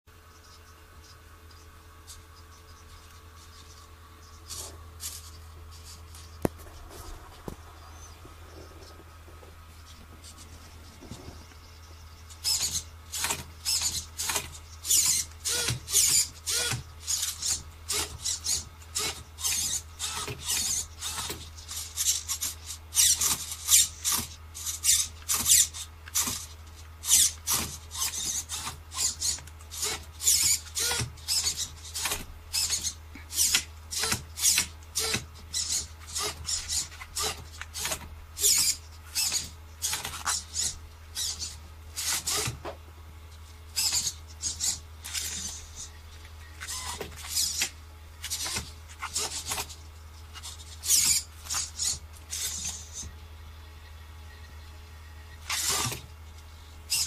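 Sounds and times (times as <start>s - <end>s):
low steady hum: 0.1s - 57.0s
servo motors whirring: 2.0s - 42.8s, 43.4s - 53.1s, 54.4s - 56.1s.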